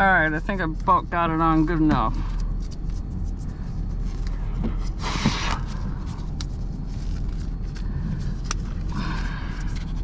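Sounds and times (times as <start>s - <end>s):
vehicle idling: 0.0s - 10.0s.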